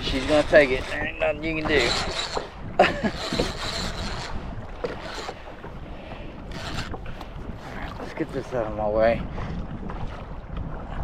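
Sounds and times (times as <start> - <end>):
water washing against hull: 0.0 - 11.0
wind buffeting microphone: 0.0 - 11.0.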